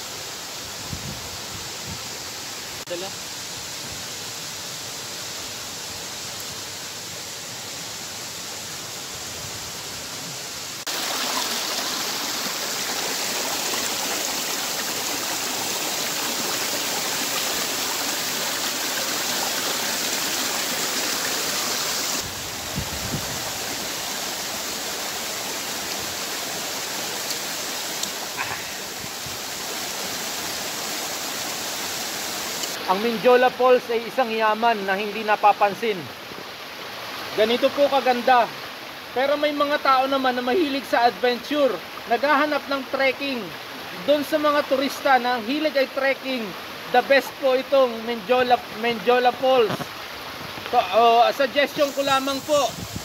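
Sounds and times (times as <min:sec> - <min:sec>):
waterfall and stream rushing: 0:00.0 - 0:53.0.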